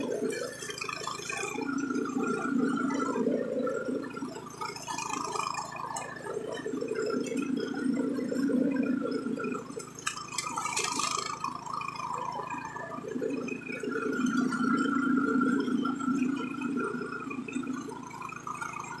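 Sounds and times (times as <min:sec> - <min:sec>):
lawn mower engine burbling: 0:00.0 - 0:19.0.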